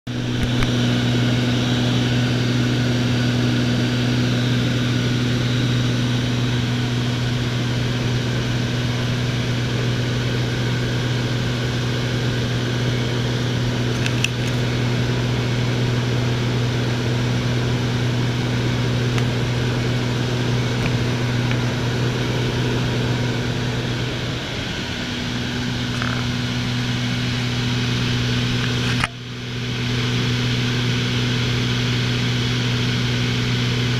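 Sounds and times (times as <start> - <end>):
propeller plane engine droning: 0.1 - 33.9.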